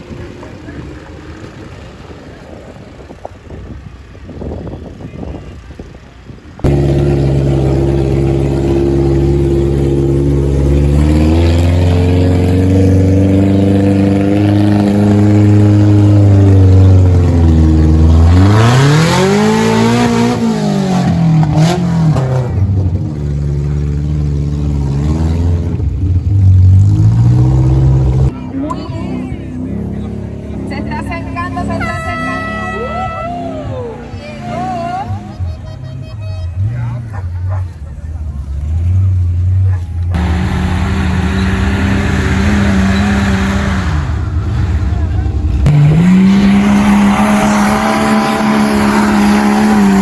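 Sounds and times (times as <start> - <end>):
vehicle engine running and revving: 0.0 - 50.0.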